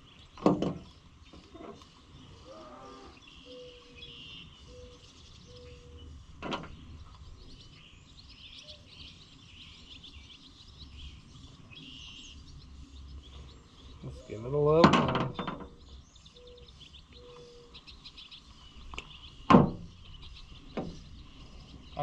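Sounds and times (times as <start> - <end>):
birds chirping and singing: 0.0 - 22.0.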